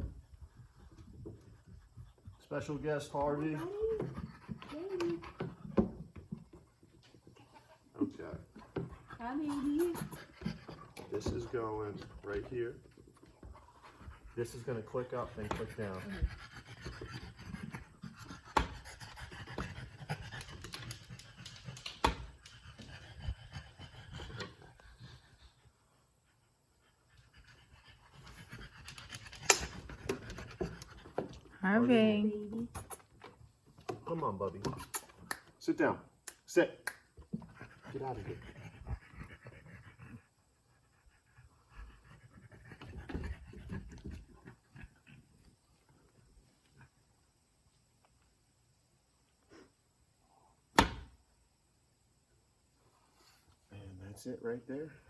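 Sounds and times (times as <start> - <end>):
dog panting: 0.0 - 35.3, 37.2 - 47.0.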